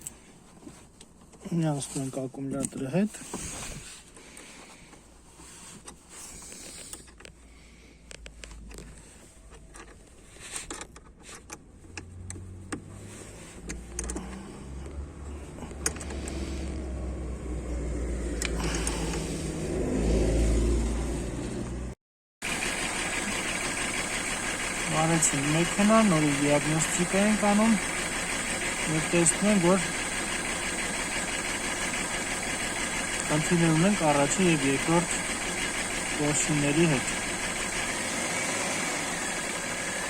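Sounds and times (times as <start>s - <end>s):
car engine rumbling: 7.0s - 40.0s.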